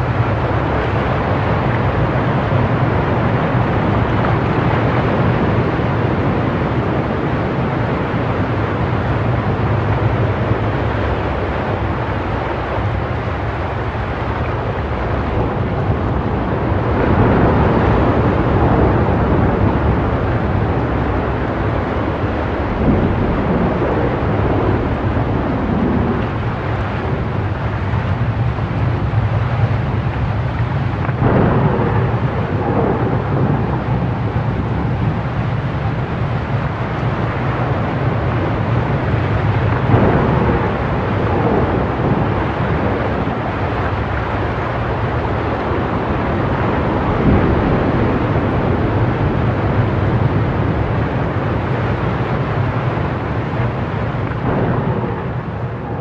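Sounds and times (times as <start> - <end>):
rushing churning water: 0.0 - 56.0.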